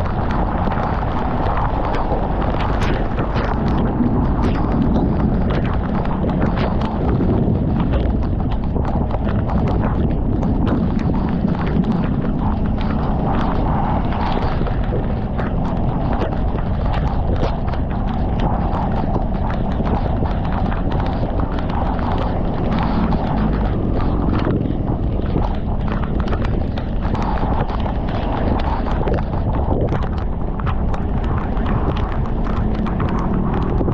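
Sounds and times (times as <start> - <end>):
low engine drone: 0.0 - 33.9
raindrops tapping: 0.0 - 33.9
wind and rain on microphone: 0.0 - 33.9.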